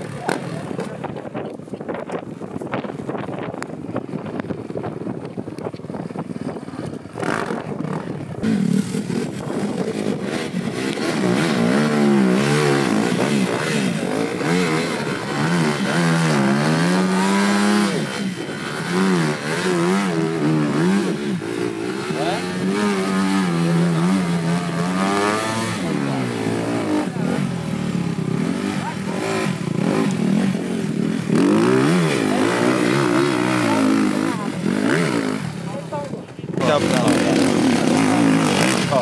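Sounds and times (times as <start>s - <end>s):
wind noise: 0.0s - 39.0s
dirt bike engine revving: 6.2s - 39.0s.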